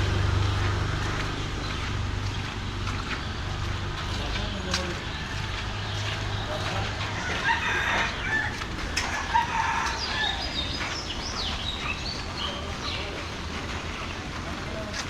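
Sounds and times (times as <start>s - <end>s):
birds chirping: 0.0s - 15.0s
street background noise: 0.0s - 15.0s.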